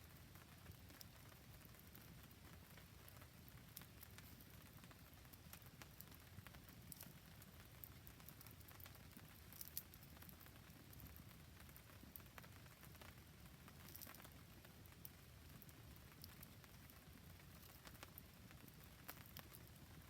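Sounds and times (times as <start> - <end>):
rain patter: 0.0 - 20.0
campfire crackling and popping: 0.1 - 20.0.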